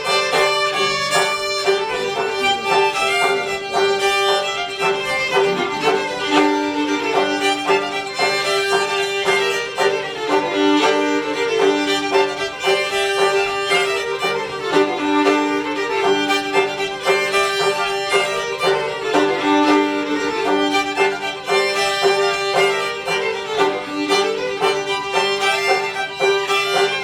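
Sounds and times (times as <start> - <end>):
fiddle melody: 0.0 - 27.0
plucked banjo notes: 0.0 - 27.0.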